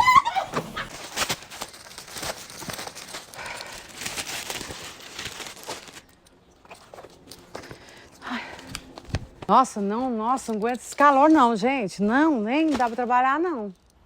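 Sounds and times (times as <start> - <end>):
crinkling and clicking: 0.2 - 14.0.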